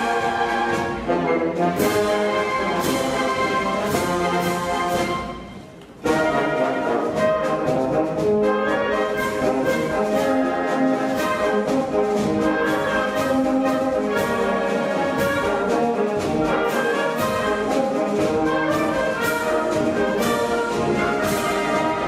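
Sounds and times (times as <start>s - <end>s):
orchestral music with brass: 0.0s - 22.0s.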